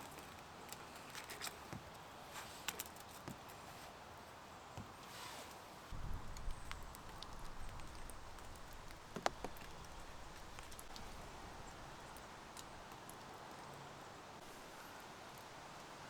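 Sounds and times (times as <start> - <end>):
light rain falling: 0.0 - 16.0
small drips and ticks: 0.0 - 16.0.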